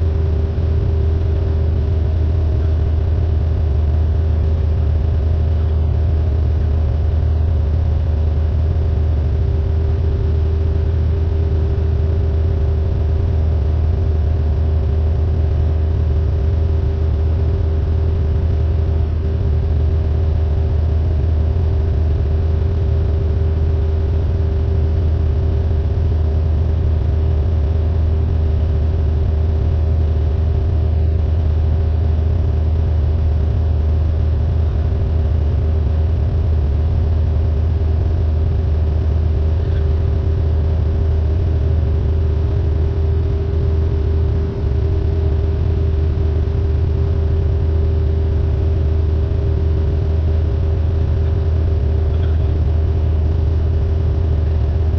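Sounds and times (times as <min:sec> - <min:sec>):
light aircraft engine droning: 0:00.0 - 0:54.9.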